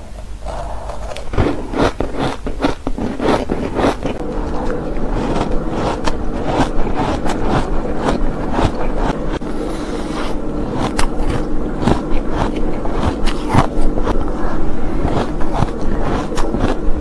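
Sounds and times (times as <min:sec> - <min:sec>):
chewing crunchy ice: 0:00.4 - 0:17.0.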